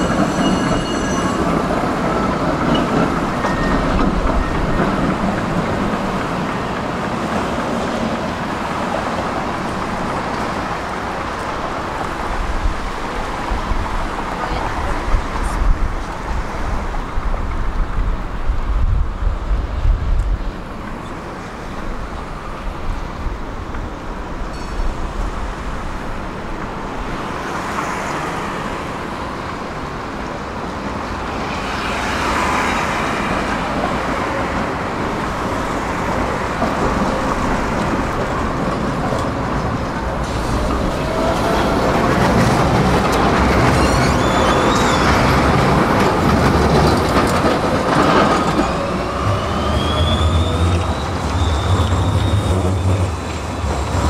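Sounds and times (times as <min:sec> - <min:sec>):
city street traffic: 0:00.0 - 0:54.0
tram passing on tracks: 0:00.0 - 0:54.0.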